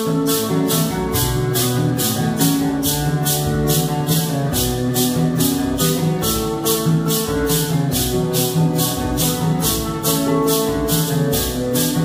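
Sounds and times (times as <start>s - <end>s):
acoustic guitars: 0.0s - 12.0s
maracas shaking: 0.0s - 12.0s.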